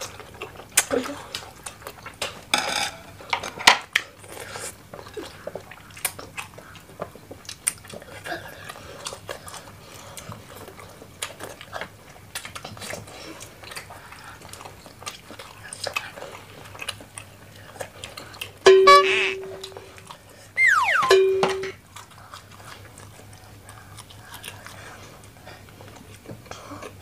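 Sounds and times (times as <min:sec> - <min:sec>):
chewing and biting food: 0:00.0 - 0:02.4, 0:03.9 - 0:18.6, 0:21.8 - 0:27.0.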